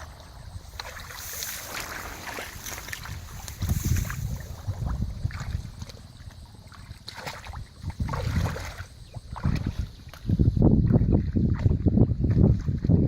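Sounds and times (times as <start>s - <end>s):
water sloshing and splashing: 0.0s - 13.0s
wind buffeting microphone: 0.0s - 13.0s.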